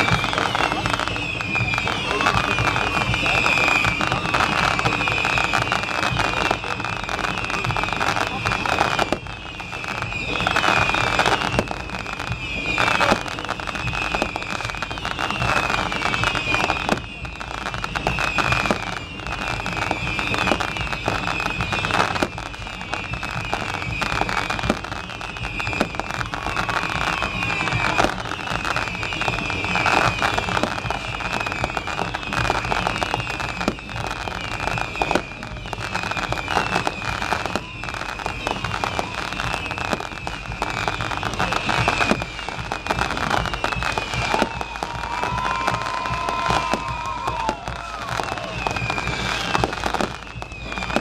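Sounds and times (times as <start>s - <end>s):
fireworks exploding: 0.0s - 51.0s.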